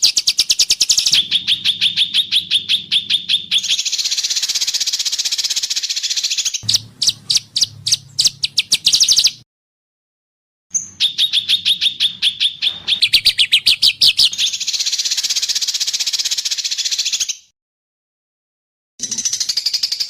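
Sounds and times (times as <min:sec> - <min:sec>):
songbird singing: 0:00.0 - 0:09.4, 0:10.7 - 0:17.4.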